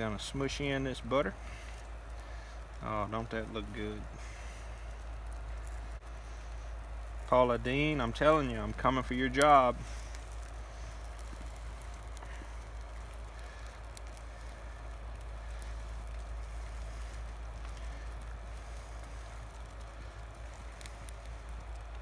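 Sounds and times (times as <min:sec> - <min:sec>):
campfire crackling: 0:00.0 - 0:22.0
steady low rumble: 0:00.0 - 0:22.0.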